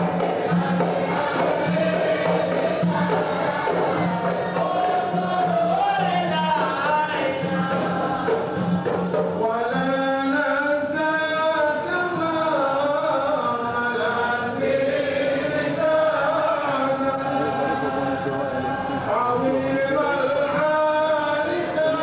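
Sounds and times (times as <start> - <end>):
men chanting together: 0.0 - 11.3, 12.8 - 22.0.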